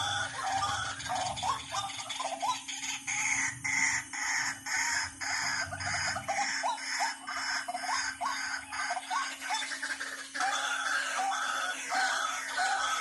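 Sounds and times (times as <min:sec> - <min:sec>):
harsh clucking bird call: 0:00.0 - 0:13.0.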